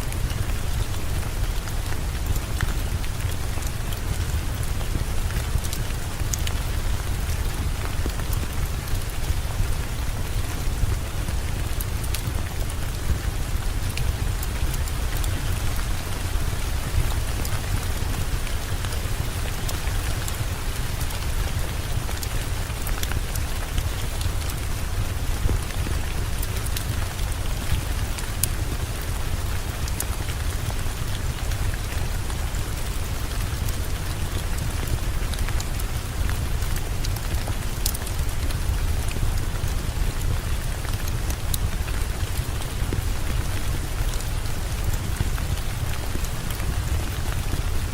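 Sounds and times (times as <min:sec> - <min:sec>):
heavy rain falling: 0:00.1 - 0:47.9.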